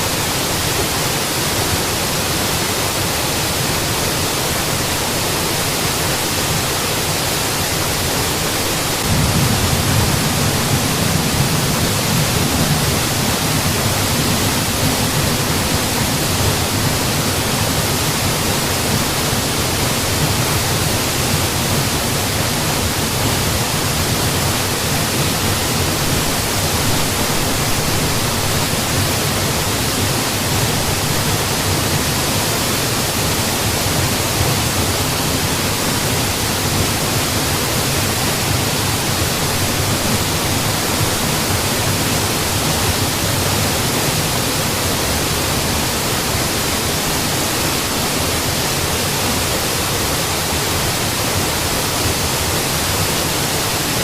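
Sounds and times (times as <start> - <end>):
waterfall pouring: 0.3 - 54.0.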